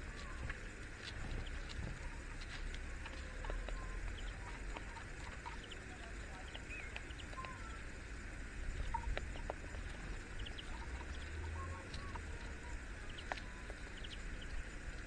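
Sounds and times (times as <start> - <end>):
bird calls and chirps: 0.0 - 8.1, 8.7 - 15.0.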